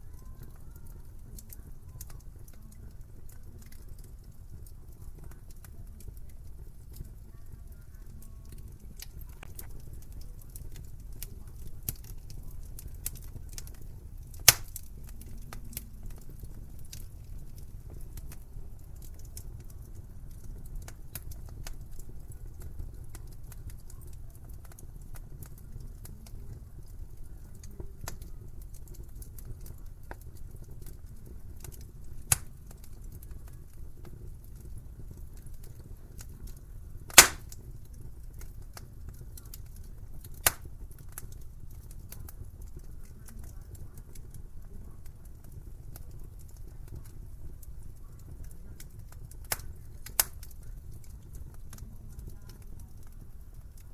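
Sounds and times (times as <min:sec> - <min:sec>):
fireplace fire crackling: 0:00.0 - 0:53.9
sharp pops of fire: 0:08.2 - 0:53.9.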